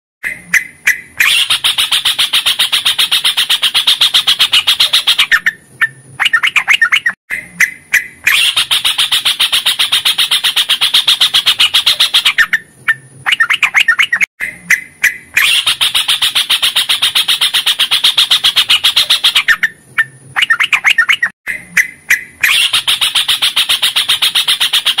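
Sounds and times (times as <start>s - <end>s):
bird singing rapid trill: 0.3s - 25.0s.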